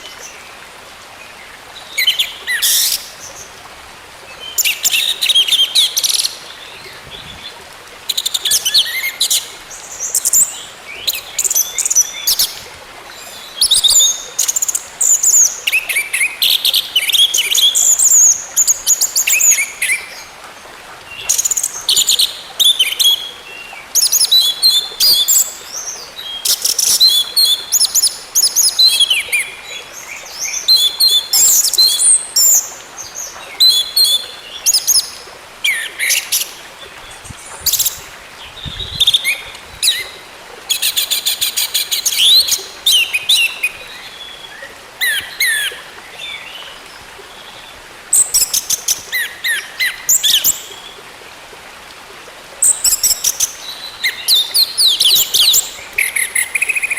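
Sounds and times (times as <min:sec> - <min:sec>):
faint steady hiss: 0:00.0 - 0:56.9.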